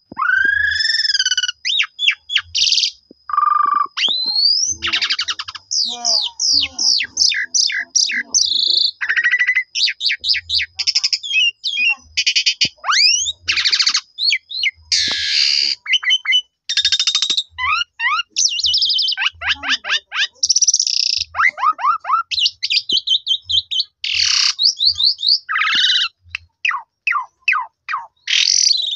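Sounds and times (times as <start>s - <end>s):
starling singing: 0.1s - 28.9s.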